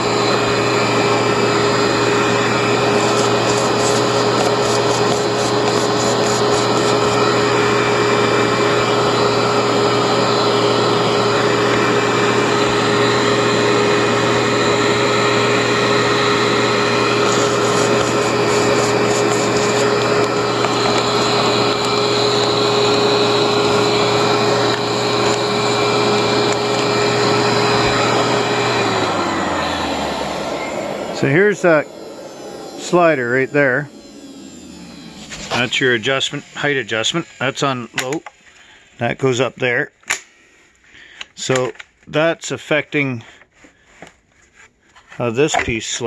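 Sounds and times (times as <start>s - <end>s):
vacuum cleaner motor whining: 0.0s - 39.5s.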